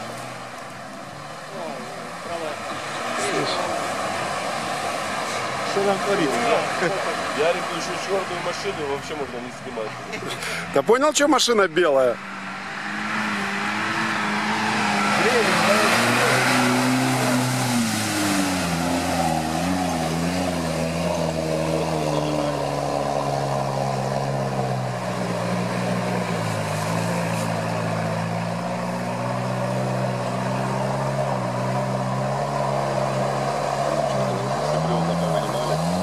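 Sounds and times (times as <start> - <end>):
water and mud splashing: 0.0 - 9.6, 13.7 - 36.0
off-road engine revving: 0.0 - 36.0.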